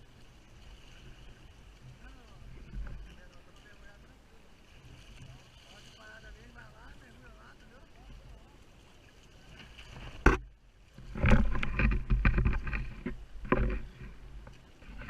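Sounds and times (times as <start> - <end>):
water splashing against kayak hull: 0.0 - 15.0.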